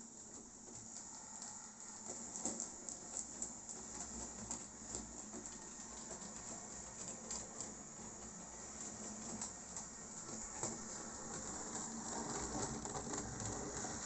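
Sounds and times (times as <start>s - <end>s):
wheels clicking on track: 0.0s - 14.0s.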